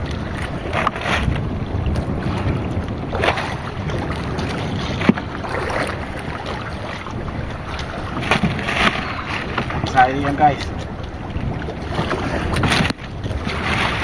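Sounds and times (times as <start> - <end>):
water washing around boat: 0.0 - 14.0
wind buffeting microphone: 0.0 - 14.0.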